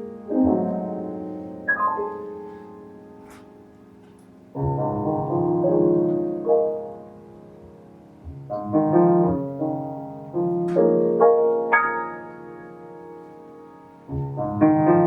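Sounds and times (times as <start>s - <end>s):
jazz piano chords: 0.0s - 15.0s.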